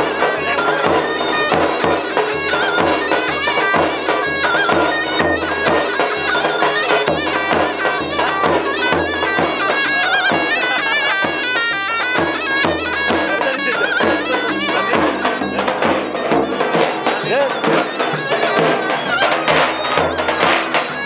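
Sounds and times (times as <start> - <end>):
large drum beating: 0.0 - 21.0
shrill reed pipe melody: 0.0 - 21.0.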